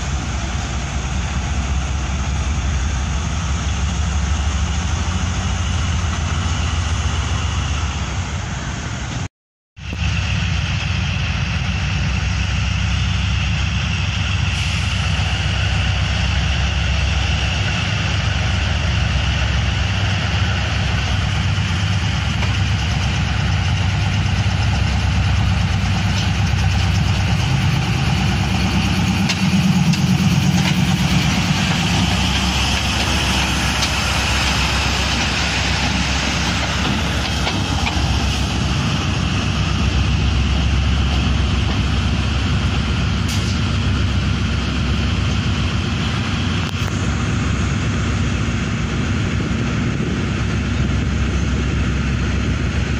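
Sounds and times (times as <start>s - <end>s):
locomotive engine deep drone: 0.0s - 52.9s.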